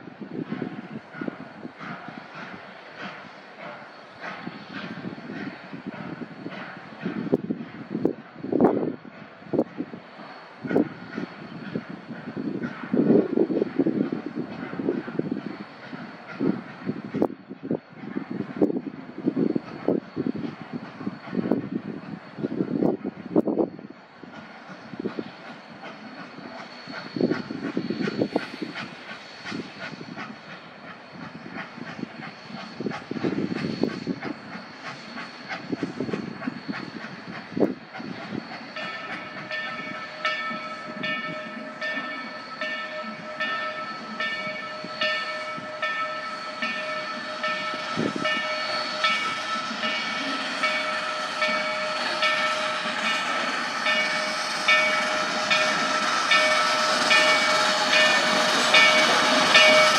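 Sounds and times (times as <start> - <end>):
steam hissing: 0.0 - 59.9
steam locomotive approaching: 0.0 - 59.9.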